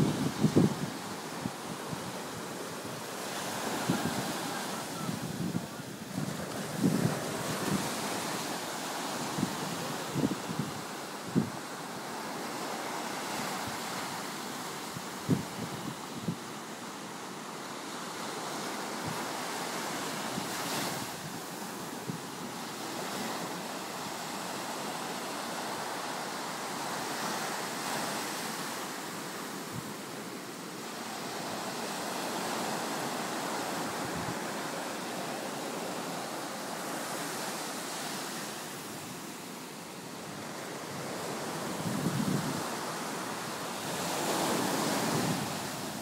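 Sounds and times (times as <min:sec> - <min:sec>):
ocean surf breaking: 0:00.0 - 0:46.0.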